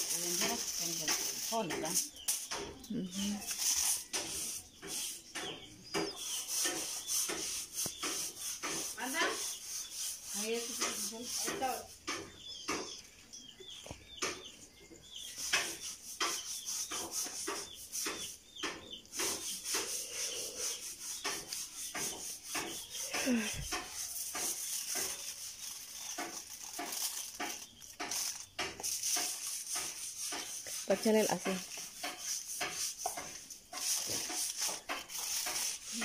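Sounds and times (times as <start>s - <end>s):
scraping strokes: 0.0s - 12.9s, 15.1s - 36.0s.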